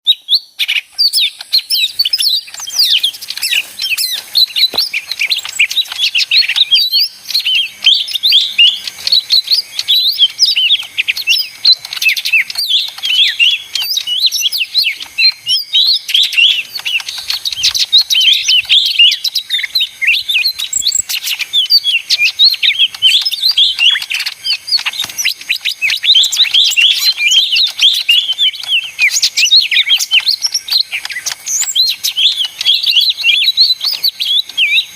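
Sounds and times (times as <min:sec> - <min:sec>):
bird singing chattering song: 0:00.0 - 0:34.9.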